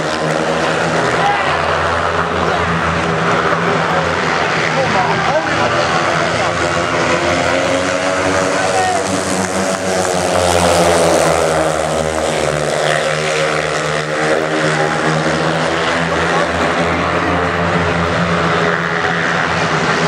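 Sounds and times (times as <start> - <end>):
motorcycle engines racing: 0.0 - 20.0.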